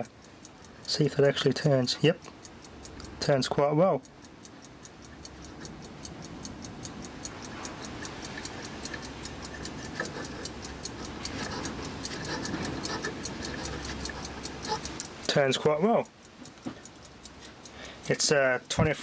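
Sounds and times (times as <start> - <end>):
clockwork ticking: 0.0 - 19.0.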